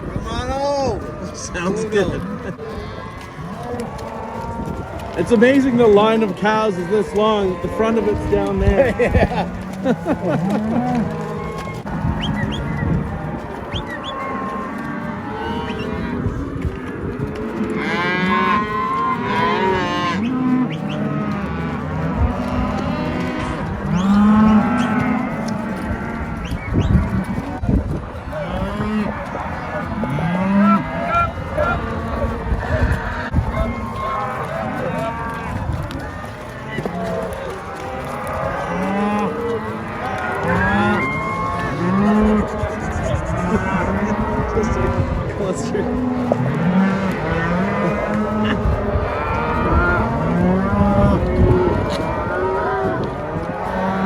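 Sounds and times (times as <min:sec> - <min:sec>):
cows mooing and bawling: 0:00.0 - 0:54.0.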